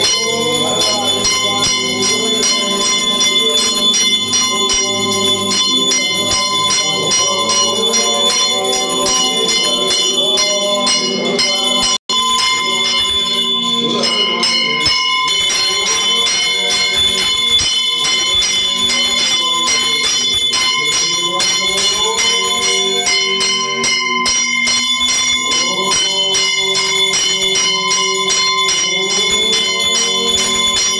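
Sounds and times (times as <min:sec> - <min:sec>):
hand bell ringing rapidly: 0:00.0 - 0:30.9.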